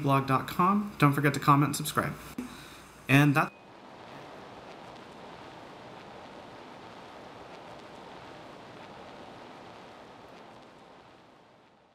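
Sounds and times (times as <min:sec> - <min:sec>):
background hiss: 0:00.0 - 0:11.9.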